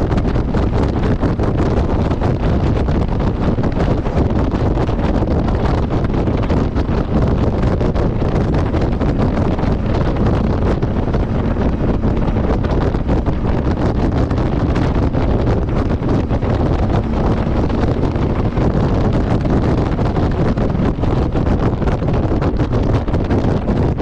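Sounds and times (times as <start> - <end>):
road noise: 0.0 - 24.0
wind buffeting microphone: 0.0 - 24.0
motorcycle engine: 0.2 - 23.7.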